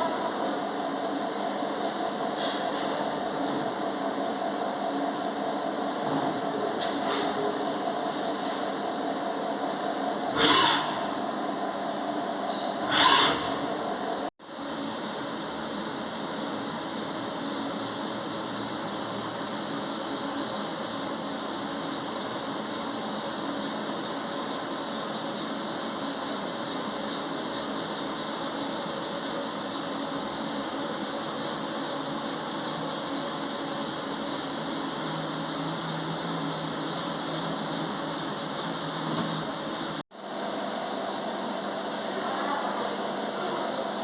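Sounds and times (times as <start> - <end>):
shop machinery whirring hum: 0.0 - 44.0.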